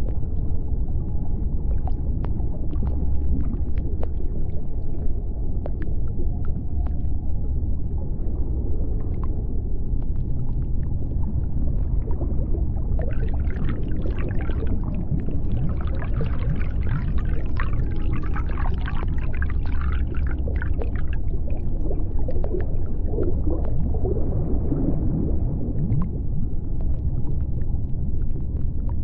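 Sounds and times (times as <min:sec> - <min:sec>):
dense crackling clicks: 0:00.0 - 0:08.0, 0:08.9 - 0:29.0
underwater low rumble: 0:00.0 - 0:29.0.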